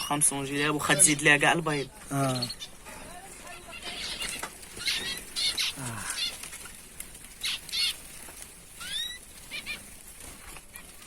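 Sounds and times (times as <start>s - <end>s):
birds chirping: 0.0s - 11.0s
birds fluttering wings: 0.0s - 11.0s.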